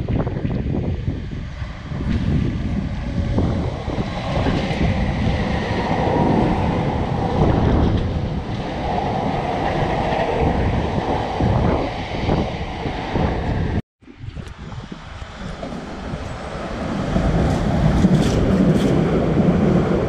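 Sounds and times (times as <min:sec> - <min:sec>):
train wheels rumbling on rails: 0:00.0 - 0:13.8, 0:14.5 - 0:20.0
wind buffeting microphone: 0:00.0 - 0:20.0.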